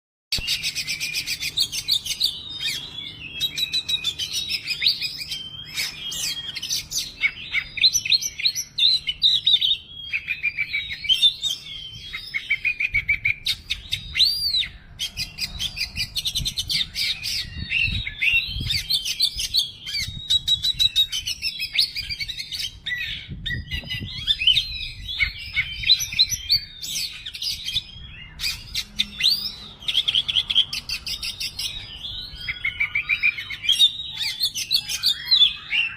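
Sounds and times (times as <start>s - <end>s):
songbird whistles and trills: 0.3s - 35.9s.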